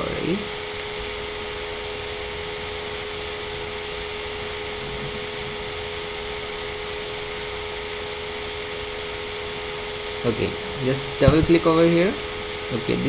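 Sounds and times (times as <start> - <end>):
background hiss: 0.0 - 13.0
mid-pitched hum: 0.0 - 13.0.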